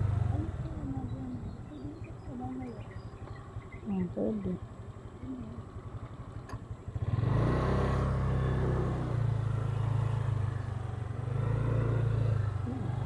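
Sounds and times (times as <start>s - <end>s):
motorcycle engine: 0.0s - 13.0s.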